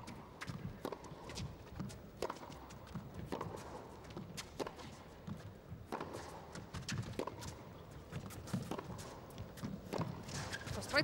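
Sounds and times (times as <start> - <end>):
racquets striking tennis ball: 0.0 - 11.0
tennis ball bouncing: 0.0 - 11.0.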